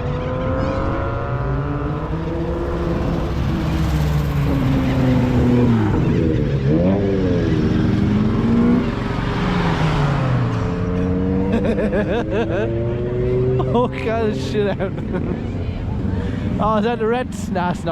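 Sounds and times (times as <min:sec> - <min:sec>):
car engine revving: 0:00.0 - 0:17.9
cars driving past: 0:00.0 - 0:17.9.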